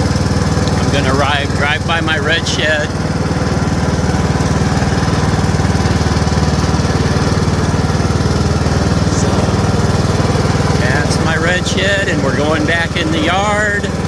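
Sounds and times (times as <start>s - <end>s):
lawn mower engine chugging: 0.0s - 14.0s.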